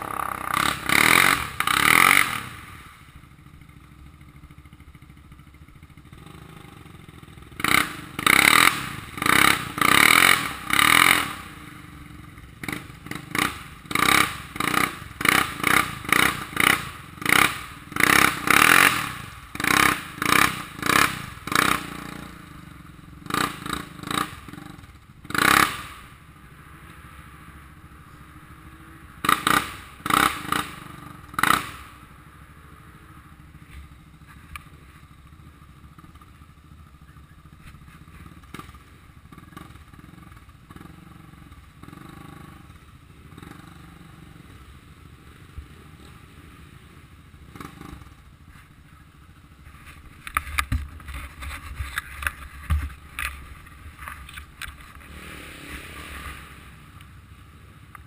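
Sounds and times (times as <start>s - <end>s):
atv engine idling: 0.0s - 58.0s.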